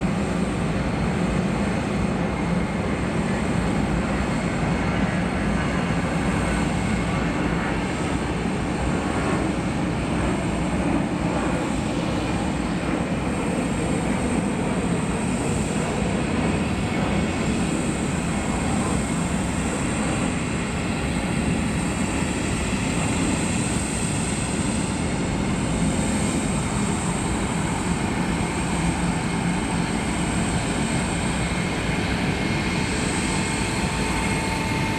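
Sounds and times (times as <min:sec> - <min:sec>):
jet engines running with whine: 0:00.0 - 0:34.9.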